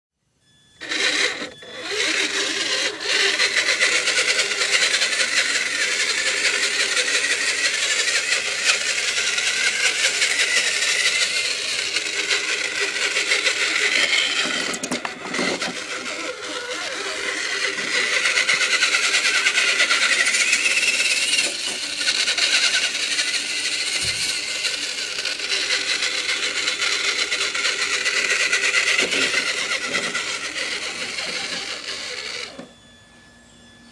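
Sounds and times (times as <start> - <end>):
electric motor whining: 0.8 - 33.9.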